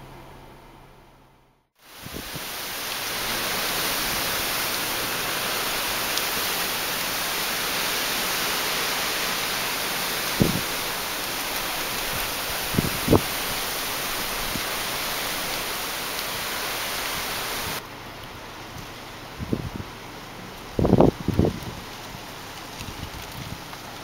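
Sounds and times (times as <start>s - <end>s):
rain hissing: 1.8s - 24.0s.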